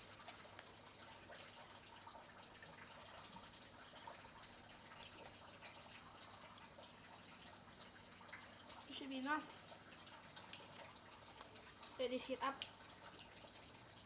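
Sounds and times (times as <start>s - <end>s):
oil trickling into a pan: 0.0s - 14.0s.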